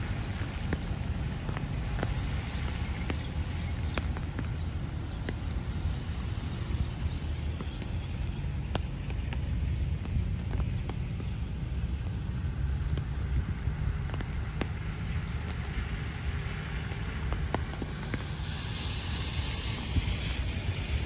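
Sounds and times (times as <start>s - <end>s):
heavy rain: 0.0s - 21.0s
steady low rumble: 0.0s - 21.0s.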